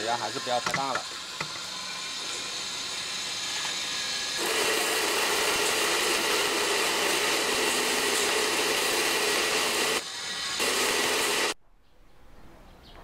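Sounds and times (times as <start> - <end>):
pressure washer spraying: 0.0 - 11.6.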